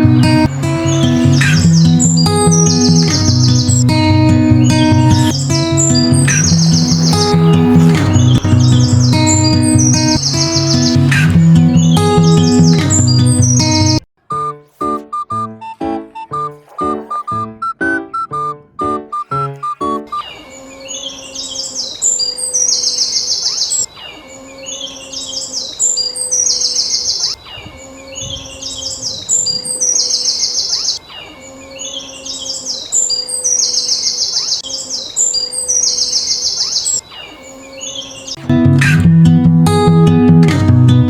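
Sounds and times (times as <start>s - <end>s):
songbird chirping: 0.0s - 38.5s.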